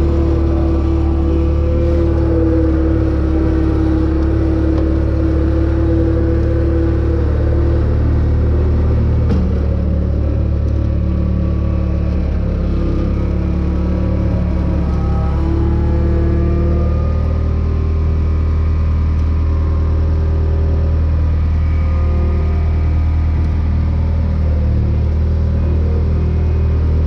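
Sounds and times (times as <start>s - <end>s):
high whine: 0.0s - 27.0s
loader engine running: 0.0s - 27.0s.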